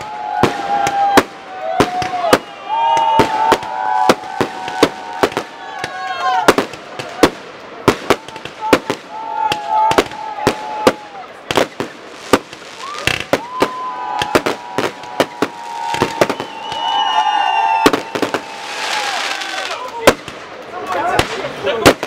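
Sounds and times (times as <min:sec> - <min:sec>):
fireworks whistling: 0:00.0 - 0:05.6, 0:07.9 - 0:20.4
fireworks bangs: 0:00.0 - 0:22.0.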